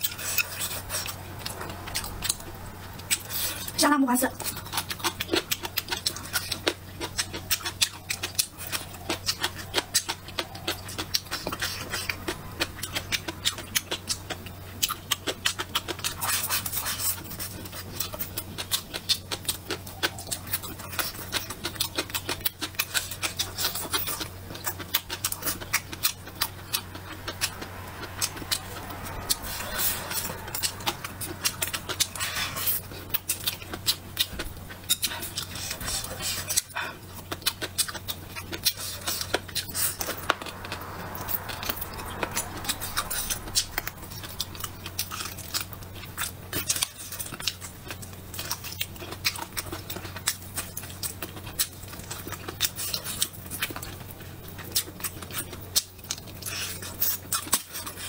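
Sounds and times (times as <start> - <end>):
person chewing wetly: 0.0 - 3.8, 4.4 - 58.0
low electrical hum: 0.0 - 58.0.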